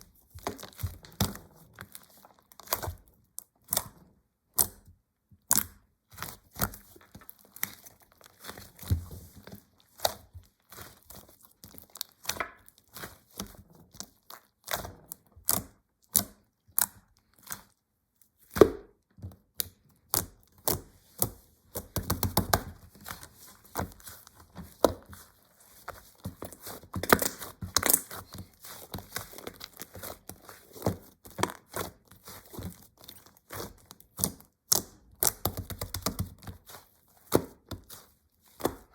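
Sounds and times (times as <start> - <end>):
slime squished with pops and clicks: 0.3 - 8.9, 9.9 - 17.8, 18.4 - 25.2, 26.0 - 38.9.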